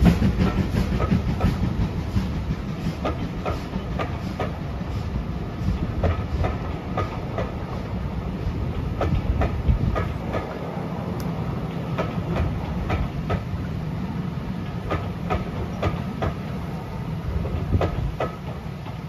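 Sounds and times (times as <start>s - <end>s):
low rumble of rolling coaches: 0.0s - 19.0s
train wheels clicking over rail joints: 0.0s - 19.0s.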